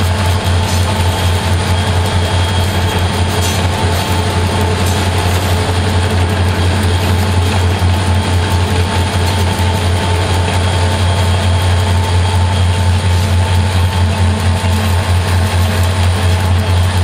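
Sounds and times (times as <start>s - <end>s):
diesel locomotive drone: 0.0s - 17.0s.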